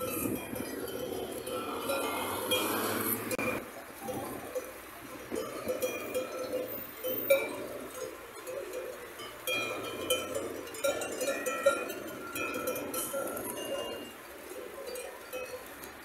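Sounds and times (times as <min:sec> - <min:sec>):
sheep bells clinking: 0:00.0 - 0:16.0.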